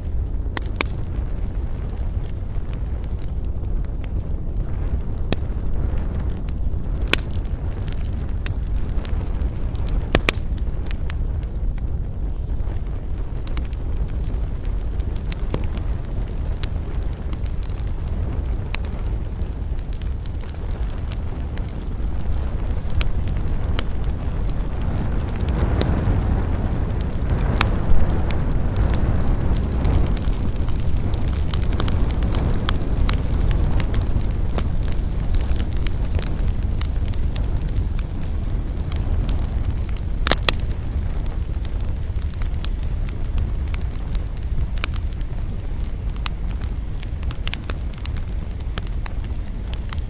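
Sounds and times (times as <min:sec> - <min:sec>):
fire crackles and pops: 0:00.0 - 0:50.0
wood fire rumble: 0:00.0 - 0:50.0.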